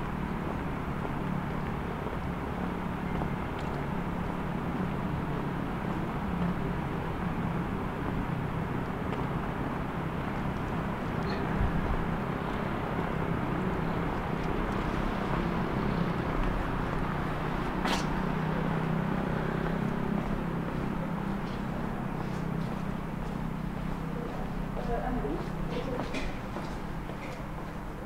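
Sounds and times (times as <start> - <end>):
distant vehicle rumble: 0.0 - 28.0.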